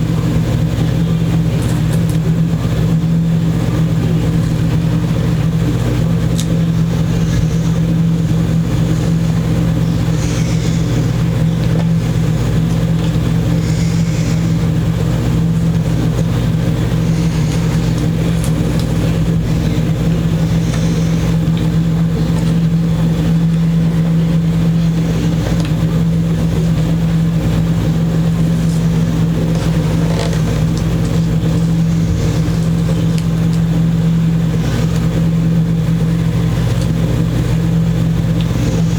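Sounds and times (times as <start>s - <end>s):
loud machine hum: 0.0s - 38.9s.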